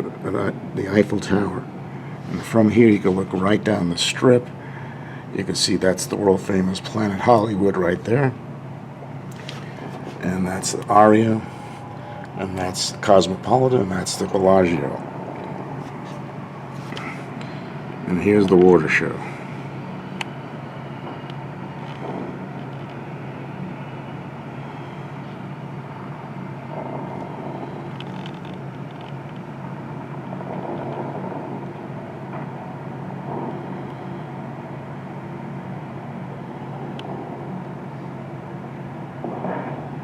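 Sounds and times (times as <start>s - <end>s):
distant city traffic hum: 0.0s - 40.0s.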